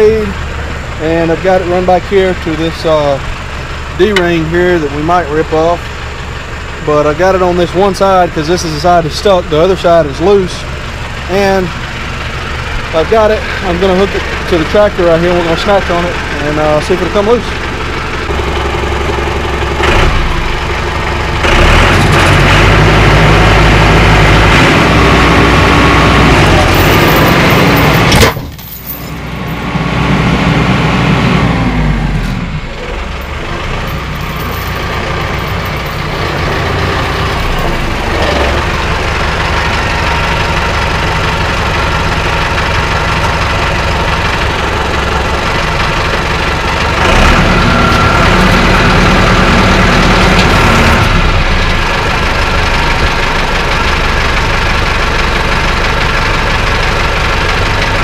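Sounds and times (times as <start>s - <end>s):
tractor engine pulling: 0.0s - 58.0s.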